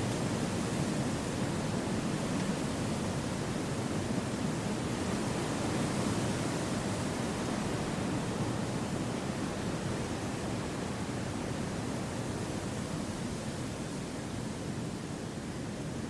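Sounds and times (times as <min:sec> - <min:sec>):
gentle wind through trees: 0:00.0 - 0:16.0.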